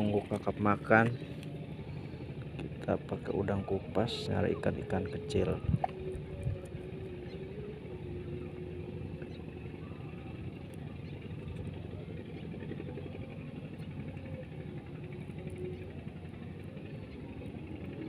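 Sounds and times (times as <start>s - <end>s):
faint wavering droning tone: 0.0s - 18.0s
low engine hum: 0.0s - 18.0s.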